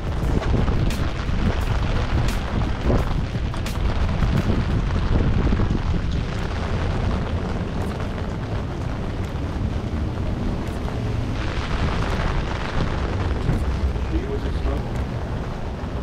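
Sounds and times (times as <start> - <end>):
rain drumming on an umbrella: 0.0 - 16.0.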